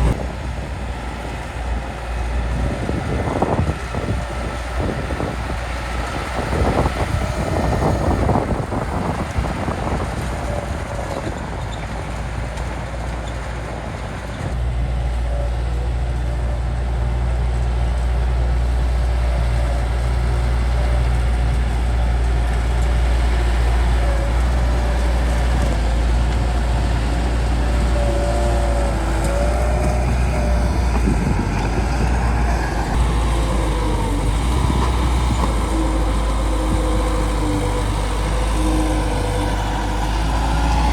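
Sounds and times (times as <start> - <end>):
bulldozer engine under load: 0.0 - 40.9.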